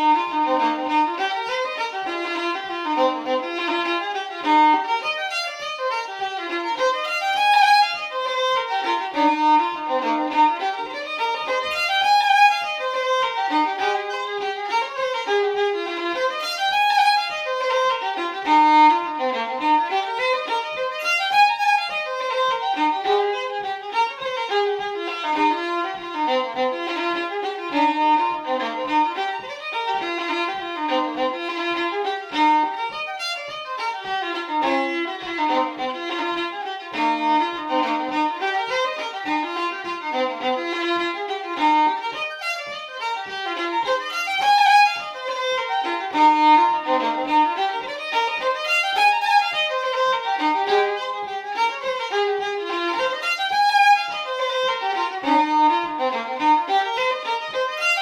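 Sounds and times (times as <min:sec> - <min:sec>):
fiddle playing a reel: 0:00.0 - 0:58.0.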